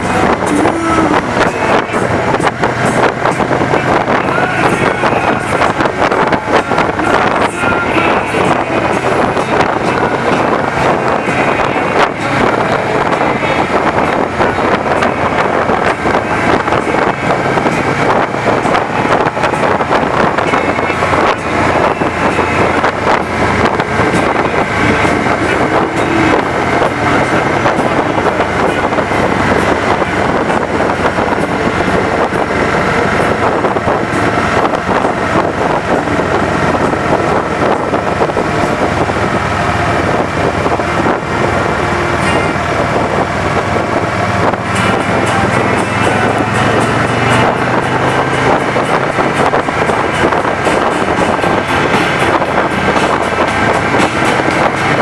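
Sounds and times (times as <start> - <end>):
road noise: 0.0 - 55.0
wind buffeting microphone: 0.0 - 55.0.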